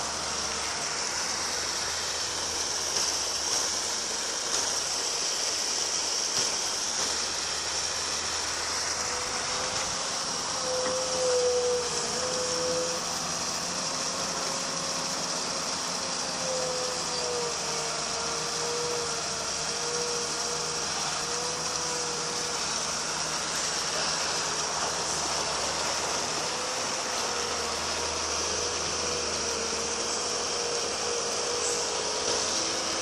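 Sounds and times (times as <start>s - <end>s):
continuous machine hiss: 0.0s - 33.0s
excavator running: 0.0s - 33.0s
hydraulic pump whine: 0.0s - 33.0s.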